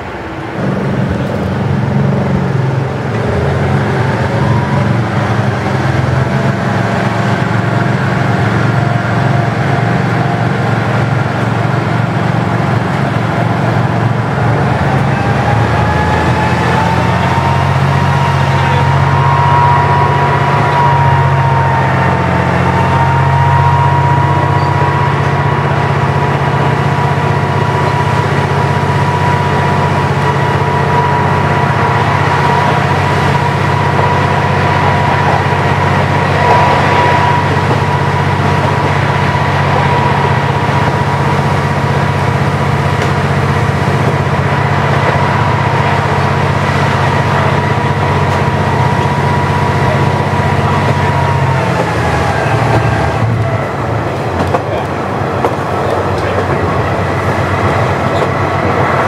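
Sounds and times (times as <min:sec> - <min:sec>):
diesel railcar engine drone: 0:00.0 - 0:59.0
rising whine: 0:00.0 - 0:59.0.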